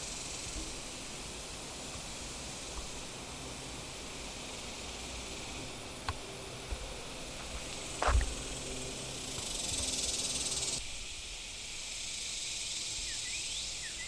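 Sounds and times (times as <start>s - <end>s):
high-pitched insect buzzing: 0.0s - 14.0s.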